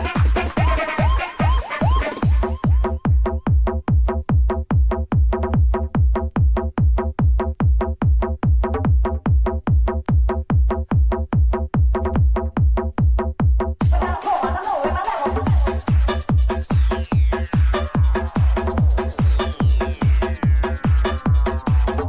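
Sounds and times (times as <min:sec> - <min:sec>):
pounding kick drum: 0:00.0 - 0:14.5, 0:15.3 - 0:22.0
repeating bass line: 0:00.0 - 0:22.0.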